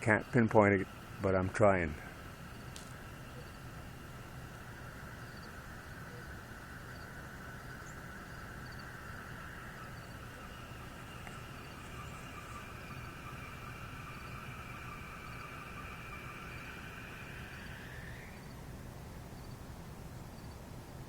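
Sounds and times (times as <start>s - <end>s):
low drone with higher tones: 0.0s - 19.6s
faint insect chirps: 0.0s - 20.8s.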